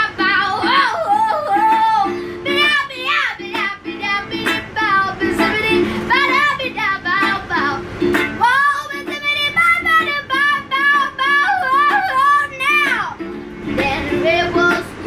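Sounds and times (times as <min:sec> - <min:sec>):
girl singing: 0:00.0 - 0:15.0
ukulele strumming chords: 0:00.0 - 0:15.0.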